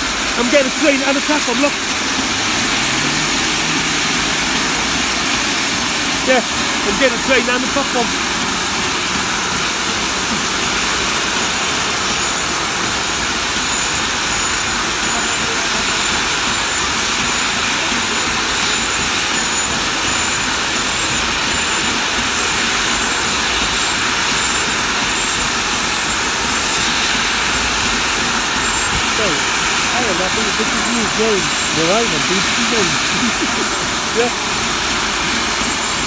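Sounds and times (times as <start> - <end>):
steam hissing from safety valves: 0.0 - 36.0.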